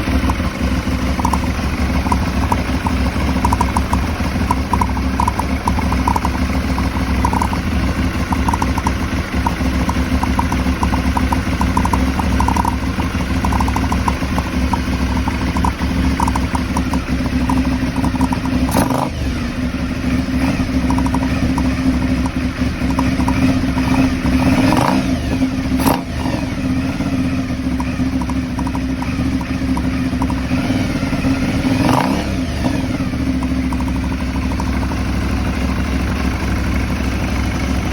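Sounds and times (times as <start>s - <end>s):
motorcycle engine idling roughly: 0.0s - 37.9s.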